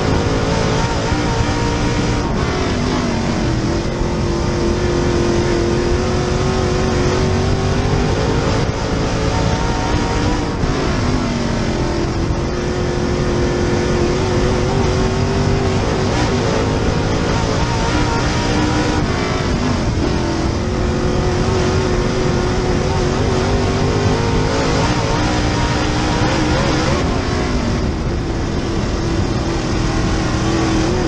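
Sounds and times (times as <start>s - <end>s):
race car engine running hard: 0.0s - 31.0s.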